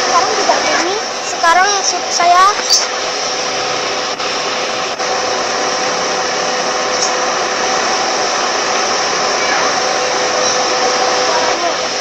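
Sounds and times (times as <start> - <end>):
air conditioning blower fan: 0.0 - 12.0.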